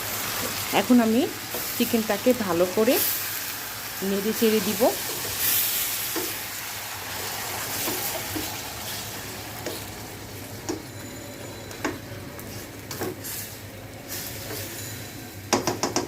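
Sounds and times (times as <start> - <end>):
chicken sizzling in hot oil: 0.0 - 15.6.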